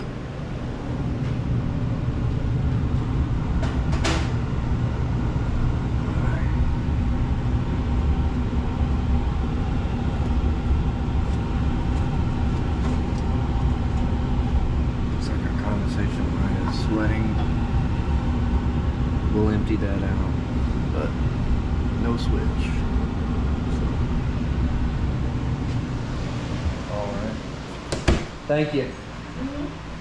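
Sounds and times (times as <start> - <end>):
air conditioner blower humming: 0.0 - 30.0.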